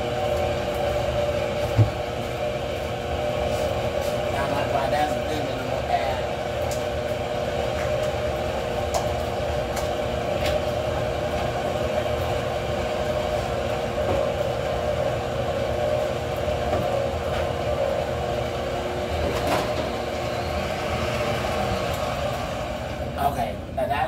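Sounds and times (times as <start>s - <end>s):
electric stand mixer humming: 0.0s - 23.2s.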